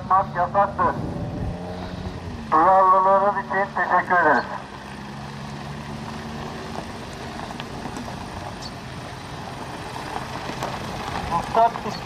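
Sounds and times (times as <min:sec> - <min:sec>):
pickup truck engine humming: 0:00.0 - 0:12.0.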